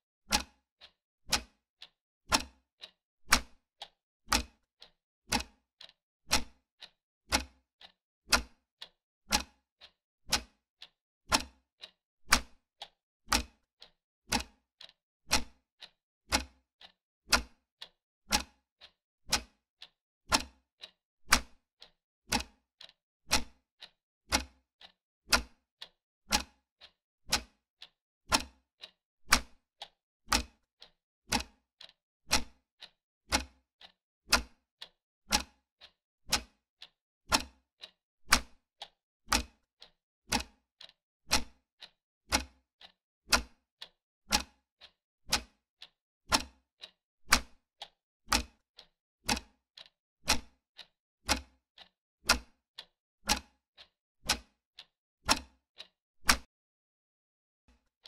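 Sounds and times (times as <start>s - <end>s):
clock ticking: 0.3s - 56.5s.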